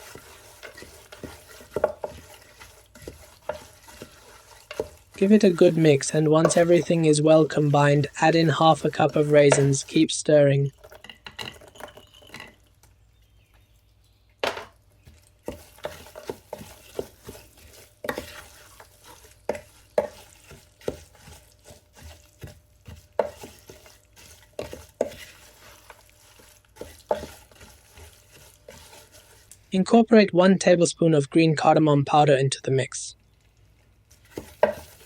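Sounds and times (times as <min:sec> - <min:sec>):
spoon scraping and knocking a pot: 0:00.0 - 0:12.6, 0:14.5 - 0:29.6, 0:34.1 - 0:35.0.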